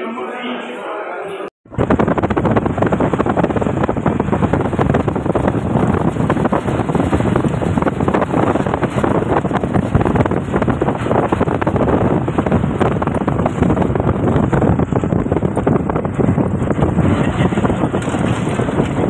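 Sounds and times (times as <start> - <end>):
wind buffeting microphone: 1.6 - 19.0
vehicle road noise: 1.8 - 19.0.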